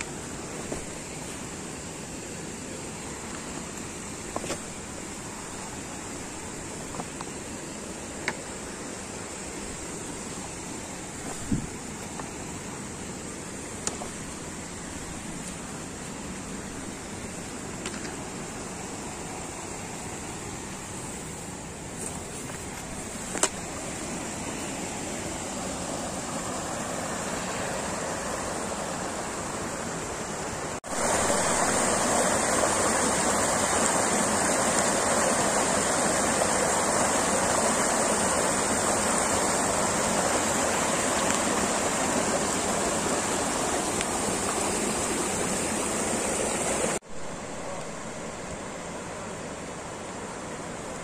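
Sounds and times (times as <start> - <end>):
mountain stream rushing: 0.0 - 51.0.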